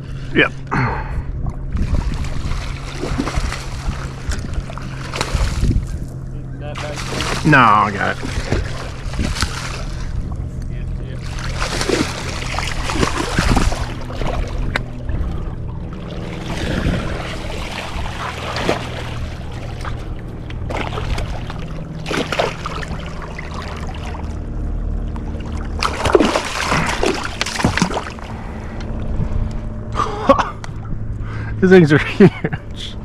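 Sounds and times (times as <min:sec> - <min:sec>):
steady low hum: 0:00.0 - 0:33.0
water splashing: 0:01.6 - 0:10.5, 0:11.1 - 0:29.1.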